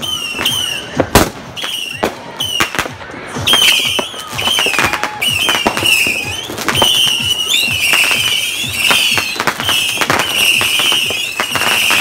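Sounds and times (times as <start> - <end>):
firework cracks and pops: 0.0 - 12.0
firework whistles: 0.0 - 12.0.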